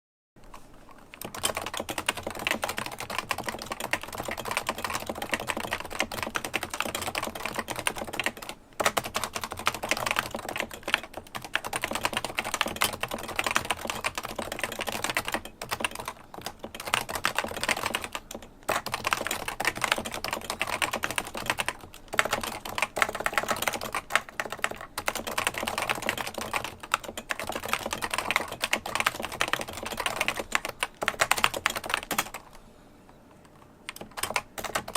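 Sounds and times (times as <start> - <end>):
fast keyboard typing: 0.4 - 32.6, 33.9 - 34.9.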